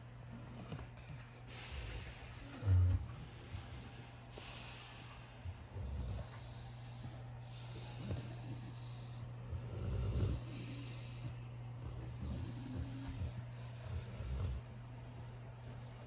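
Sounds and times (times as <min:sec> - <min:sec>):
puppy snoring: 0:00.0 - 0:16.0.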